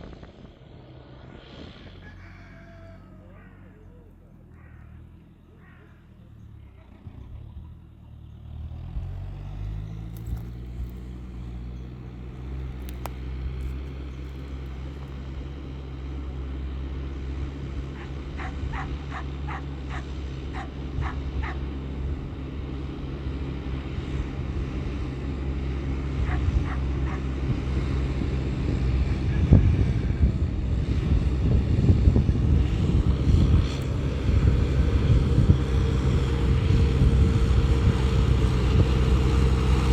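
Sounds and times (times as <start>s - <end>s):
diesel tractor engine: 0.0s - 39.9s.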